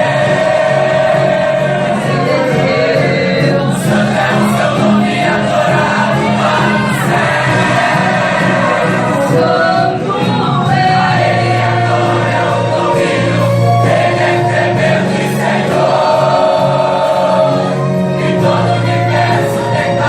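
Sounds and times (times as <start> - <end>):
gospel choir singing a hymn: 0.0 - 20.0
instrumental accompaniment: 0.0 - 20.0
steady bass line: 0.0 - 20.0.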